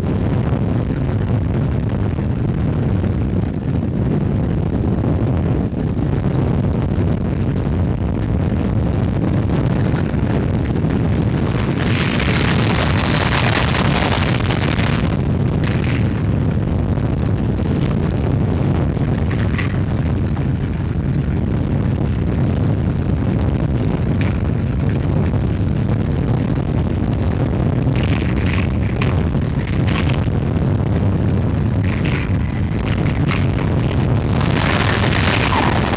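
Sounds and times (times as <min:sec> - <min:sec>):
roller coaster rumbling on track: 0:00.0 - 0:35.9.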